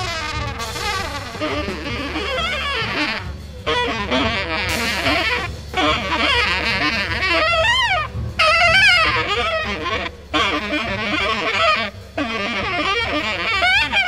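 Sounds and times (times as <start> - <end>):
free jazz horns playing: 0.0 - 14.0.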